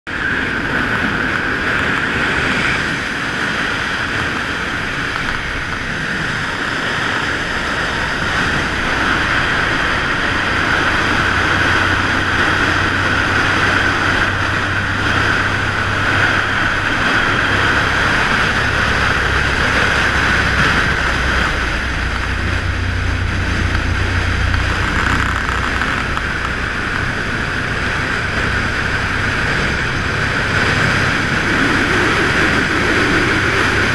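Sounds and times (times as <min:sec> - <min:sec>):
motorcycle engine hum: 0:00.1 - 0:33.9
wind noise: 0:00.1 - 0:33.9.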